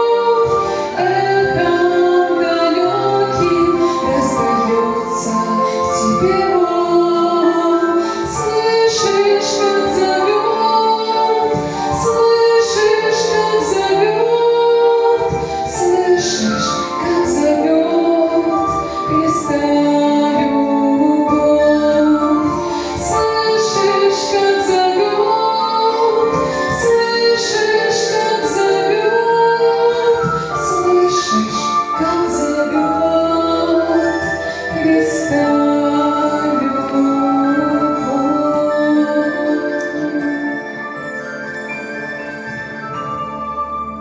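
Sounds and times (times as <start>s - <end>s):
woman singing: 0.0s - 40.8s
instrumental accompaniment: 0.0s - 44.0s.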